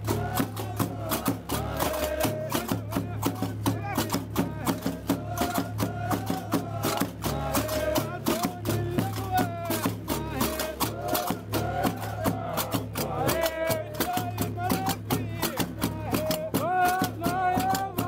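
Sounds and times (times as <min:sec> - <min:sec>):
men singing a chant: 0:00.0 - 0:18.0.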